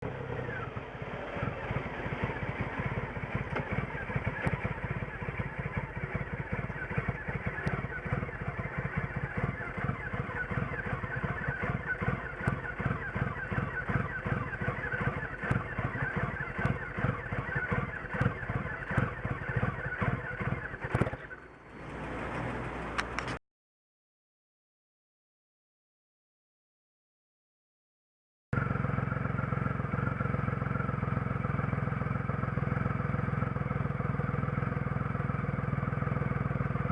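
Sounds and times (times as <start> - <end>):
motorcycle engine idling roughly: 0.0 - 23.4, 28.6 - 36.9.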